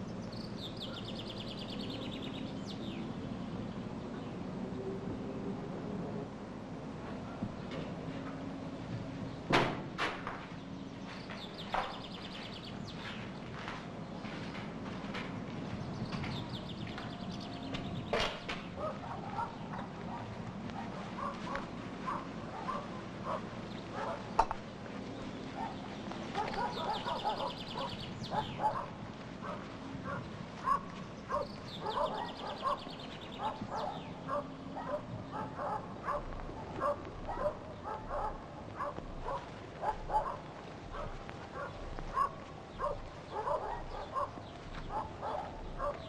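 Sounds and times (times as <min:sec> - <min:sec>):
birds and animals calling: 0:00.0 - 0:04.4, 0:10.4 - 0:46.0.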